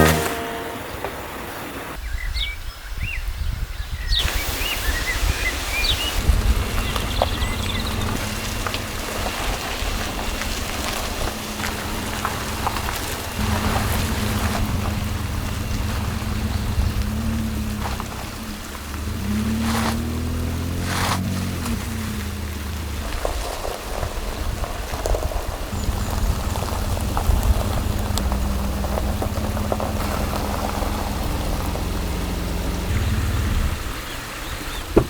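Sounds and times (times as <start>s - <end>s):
vehicle engine humming: 0.0s - 2.0s, 6.1s - 35.0s
rain patter: 4.2s - 35.0s.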